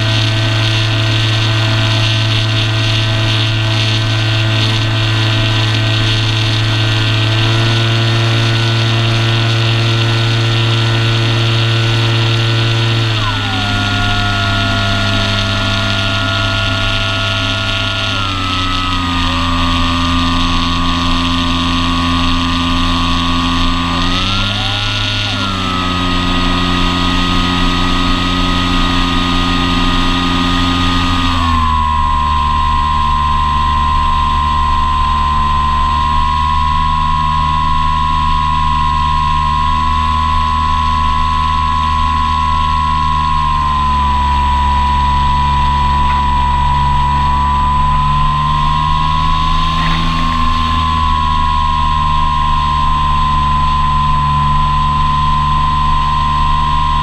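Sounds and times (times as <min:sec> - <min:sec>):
electric motor and propeller whining: 0:00.0 - 0:57.0.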